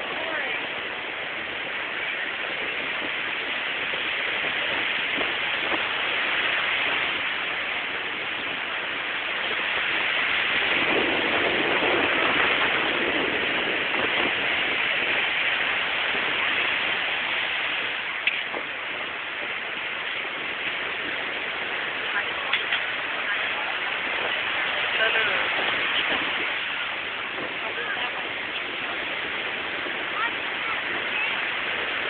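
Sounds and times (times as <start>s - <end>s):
surf rushing on beach: 0.0s - 32.0s.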